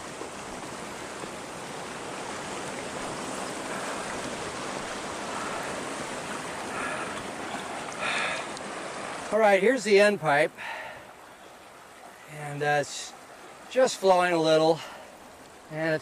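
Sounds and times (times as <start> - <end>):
creek water flowing over rocks: 0.0 - 16.0.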